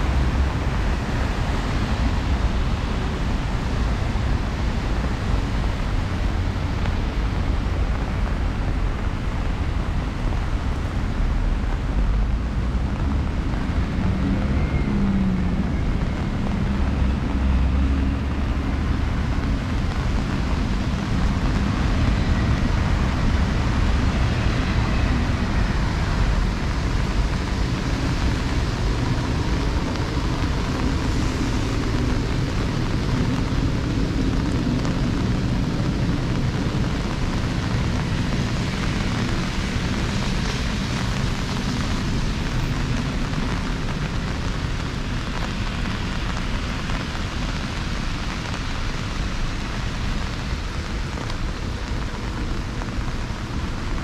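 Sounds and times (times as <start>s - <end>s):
heavy rain hissing: 0.0s - 54.0s
traffic rumble: 0.0s - 54.0s.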